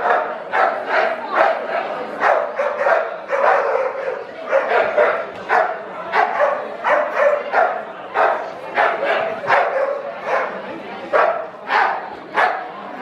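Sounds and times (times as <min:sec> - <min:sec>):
dog barking: 0:00.0 - 0:12.7.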